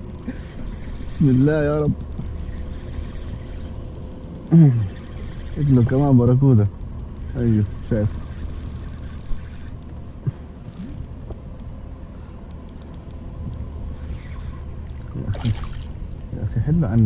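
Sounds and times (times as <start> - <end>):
water around kayak: 0.0 - 17.0.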